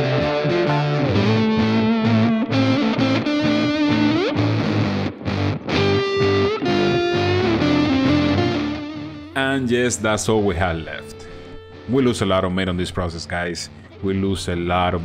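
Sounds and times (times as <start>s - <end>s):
distorted electric guitar: 0.0s - 15.0s.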